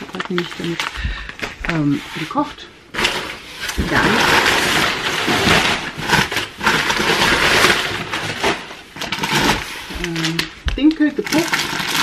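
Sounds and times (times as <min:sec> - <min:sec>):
packing paper crumpling: 0:00.0 - 0:12.0.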